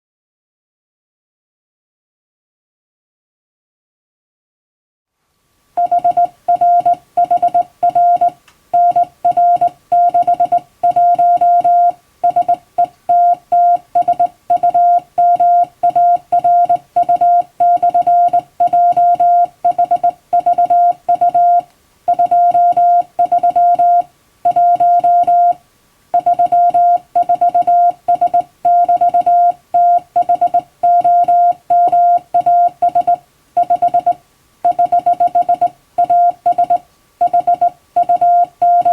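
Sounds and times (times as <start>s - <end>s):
morse code beeps: 5.8s - 25.6s, 26.2s - 38.9s.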